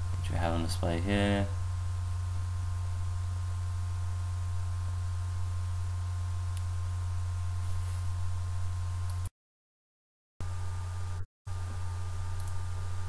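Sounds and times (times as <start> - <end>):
steady low hum: 0.0 - 9.3, 10.4 - 13.0.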